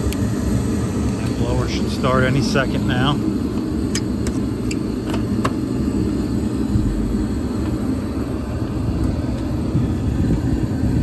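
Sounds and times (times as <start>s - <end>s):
gas heating unit rumbling: 0.0s - 11.0s.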